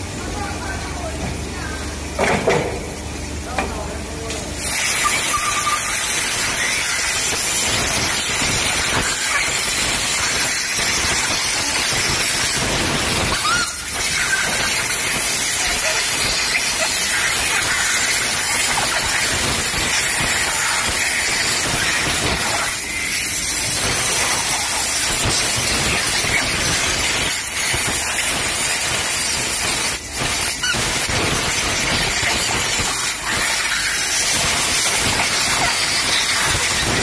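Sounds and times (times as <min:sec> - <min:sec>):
compressed air blow gun hissing: 0:04.7 - 0:37.0.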